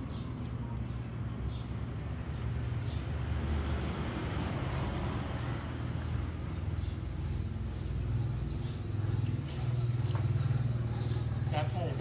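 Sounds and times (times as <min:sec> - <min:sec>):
road traffic rumble: 0:00.0 - 0:12.0
vehicle passing: 0:00.0 - 0:12.0.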